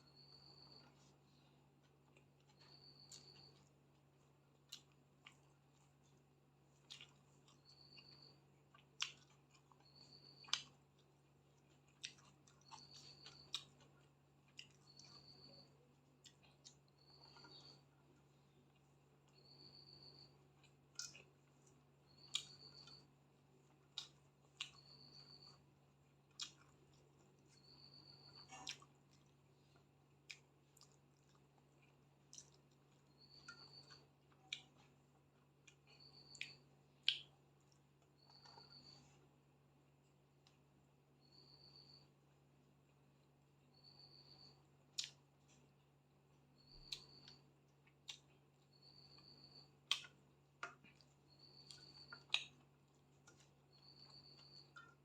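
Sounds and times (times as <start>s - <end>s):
low steady hum: 0.0s - 55.0s
chewing with mouth clicks: 0.6s - 39.2s, 44.8s - 46.0s, 46.6s - 55.0s.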